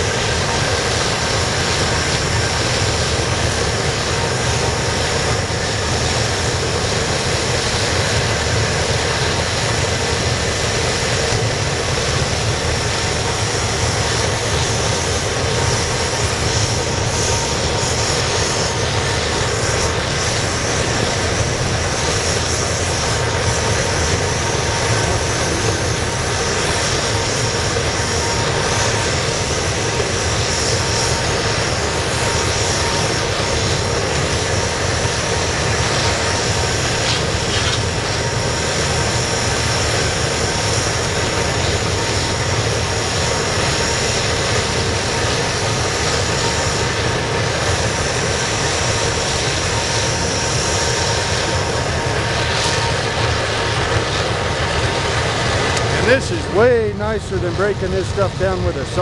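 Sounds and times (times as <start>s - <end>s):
burner flame roaring: 0.0s - 59.0s.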